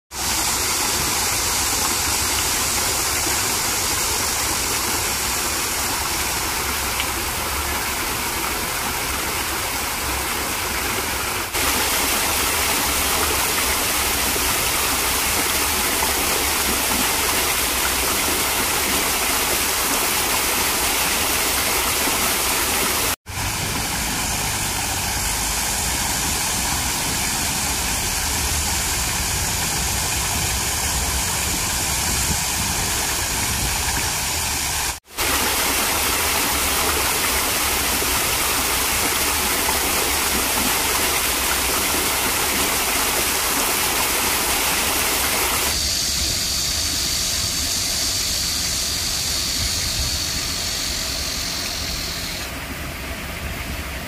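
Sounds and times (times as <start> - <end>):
waterfall splashing into pond: 0.1 - 54.0.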